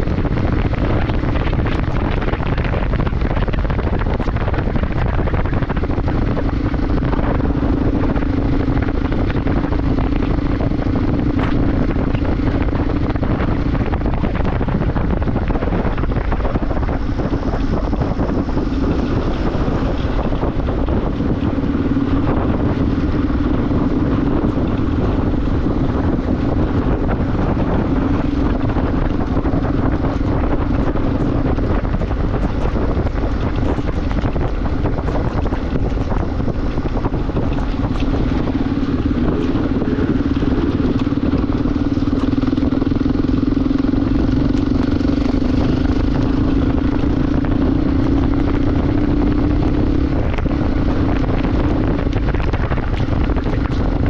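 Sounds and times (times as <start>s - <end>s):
motorcycle engine cruising: 0.0s - 54.0s
wind rush over microphone: 0.0s - 54.0s.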